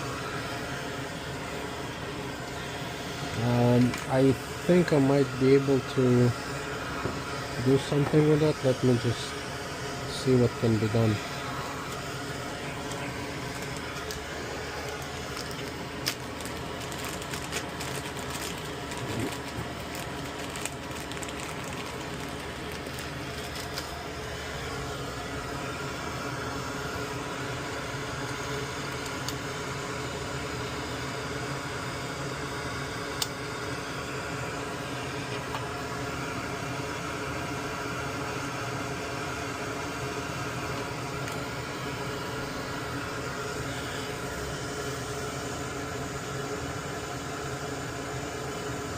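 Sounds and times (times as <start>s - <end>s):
electric fan humming: 0.0s - 48.9s.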